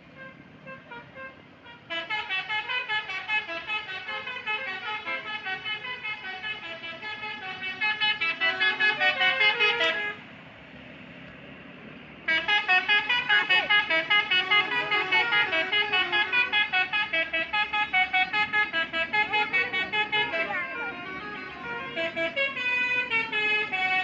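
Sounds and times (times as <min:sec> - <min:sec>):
multi-tone musical bus horn: 0:00.0 - 0:10.4, 0:12.3 - 0:24.0.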